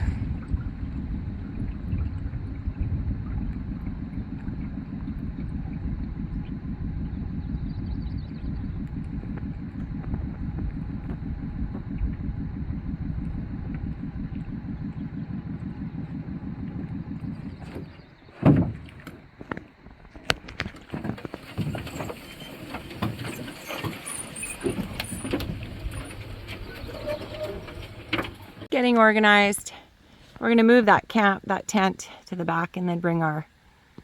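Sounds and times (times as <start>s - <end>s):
outboard motor running: 0.0s - 28.7s.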